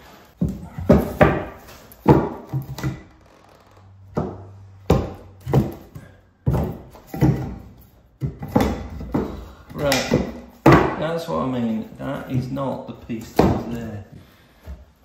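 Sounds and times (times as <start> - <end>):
hollow wooden thunks and knocks: 0.4 - 3.3, 4.0 - 11.1, 12.2 - 14.8.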